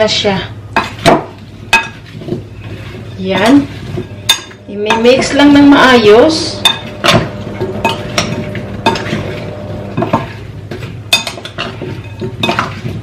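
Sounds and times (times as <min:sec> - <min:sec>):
vegetables stirred in a bowl: 0:00.0 - 0:13.0.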